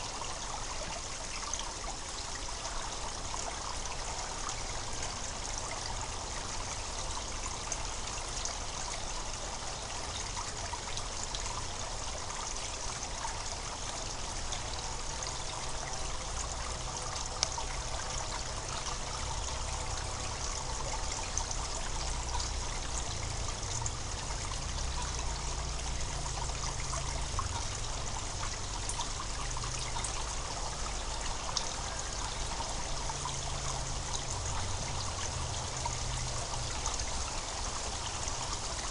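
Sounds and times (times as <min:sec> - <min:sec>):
spring water gurgling: 0:00.0 - 0:38.9.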